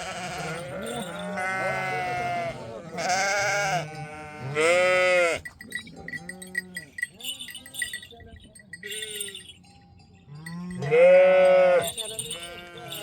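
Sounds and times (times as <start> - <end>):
sheep bleating: 0.0 - 7.8, 10.4 - 13.0
livestock bell clinking: 0.0 - 13.0.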